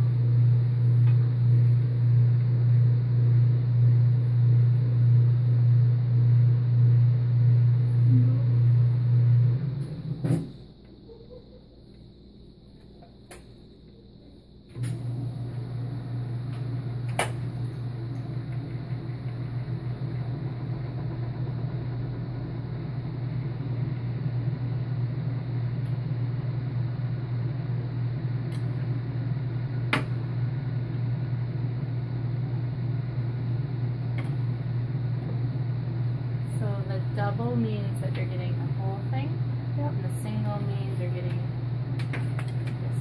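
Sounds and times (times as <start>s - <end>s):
microwave vent fan humming: 0.0s - 43.0s.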